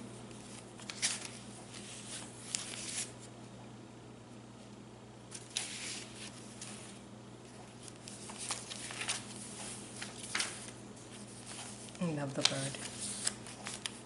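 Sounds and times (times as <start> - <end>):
faint steady hum: 0.0 - 14.0
paper rustling and crinkling: 0.3 - 3.2, 5.3 - 14.0.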